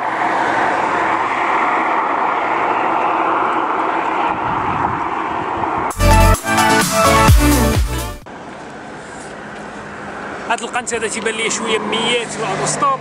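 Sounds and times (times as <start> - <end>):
road traffic rushing by: 0.0 - 13.0.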